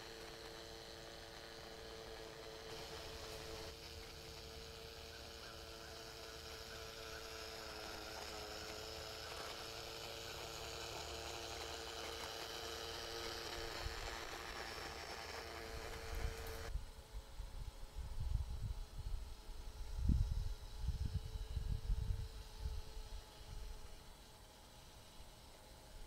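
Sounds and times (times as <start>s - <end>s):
model train motor hum: 0.0s - 26.0s.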